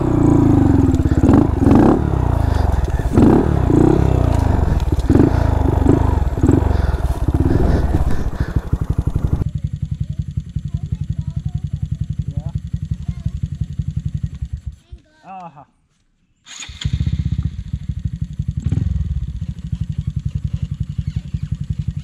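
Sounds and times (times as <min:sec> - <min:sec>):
motorcycle engine revving: 0:00.0 - 0:14.8, 0:16.9 - 0:22.0.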